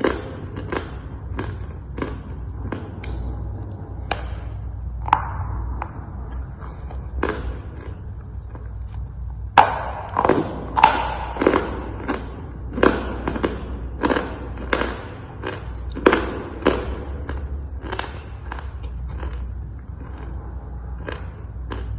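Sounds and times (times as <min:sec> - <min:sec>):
chalk crunching while chewed: 0:00.0 - 0:21.9.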